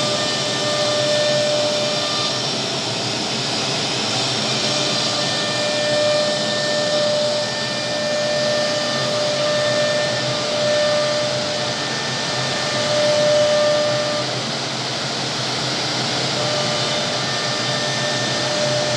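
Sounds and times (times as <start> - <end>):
wood router hissing whine: 0.0 - 18.9.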